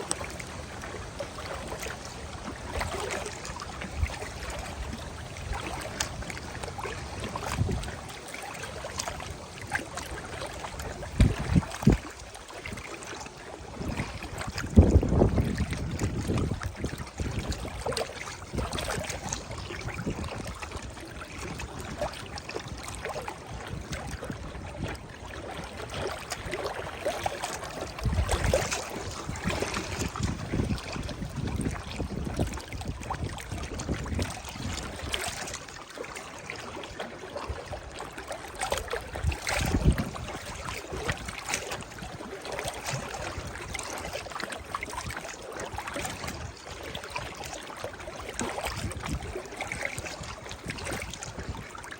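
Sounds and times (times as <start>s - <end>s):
waves lapping against shore: 0.0s - 51.9s.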